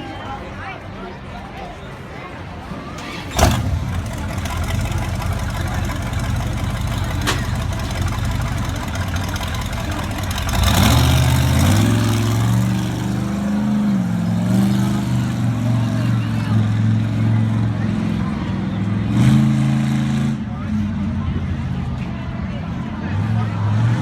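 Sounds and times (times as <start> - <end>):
monster truck engine revving: 2.9 - 21.6, 22.9 - 24.0.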